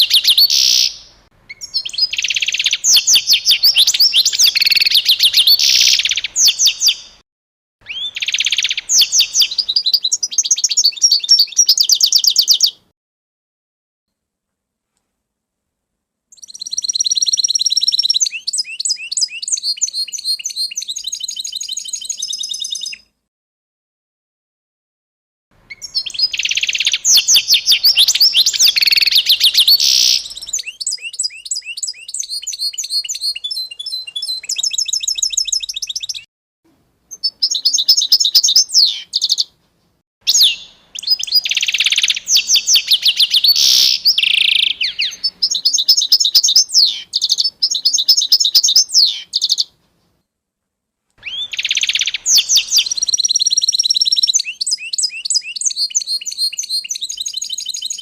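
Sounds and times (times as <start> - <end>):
songbirds chirping and trilling: 0.0 - 7.2, 7.8 - 12.9, 16.3 - 23.1, 25.6 - 36.3, 37.1 - 39.6, 40.3 - 50.2, 51.2 - 58.0.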